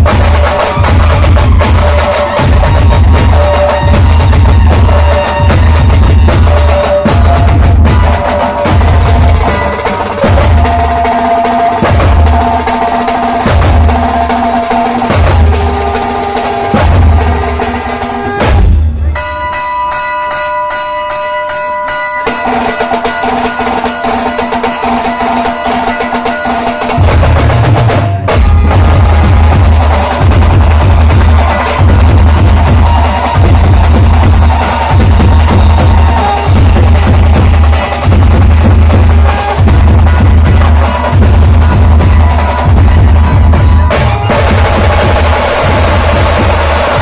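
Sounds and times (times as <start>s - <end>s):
heavy bass drum beats: 0.0s - 19.6s, 22.3s - 47.0s
dhol tasha band music: 0.0s - 47.0s.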